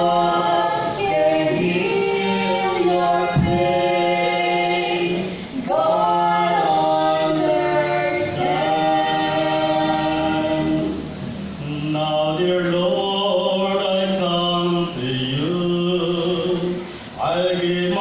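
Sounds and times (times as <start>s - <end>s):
people singing in harmony: 0.0s - 18.0s.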